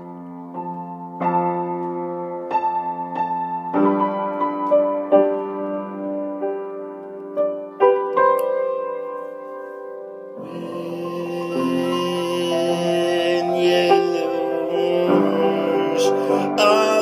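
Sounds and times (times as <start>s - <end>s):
gentle piano-like keyboard music: 0.0s - 17.0s.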